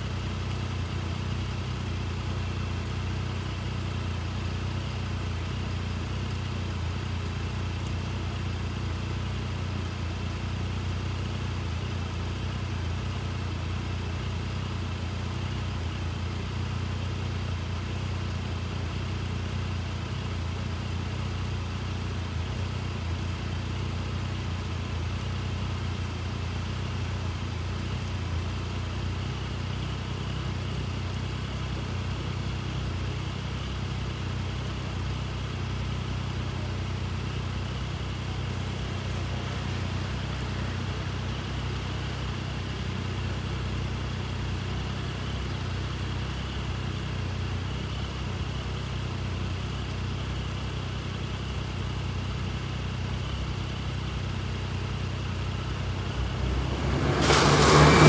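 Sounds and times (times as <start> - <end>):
vehicle engines idling: 0.0 - 58.0.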